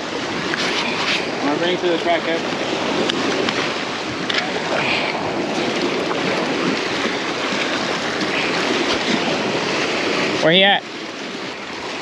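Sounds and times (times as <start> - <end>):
sea splashing against rocks: 0.0 - 12.0.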